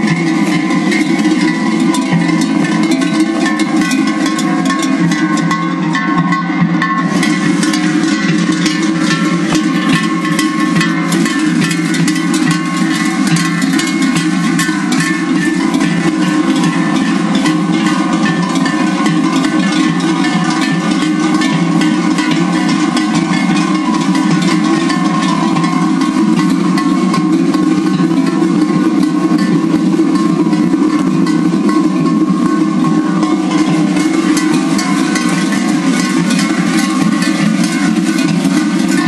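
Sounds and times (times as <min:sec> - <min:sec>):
sheep bells clanking: 0:00.0 - 0:39.0.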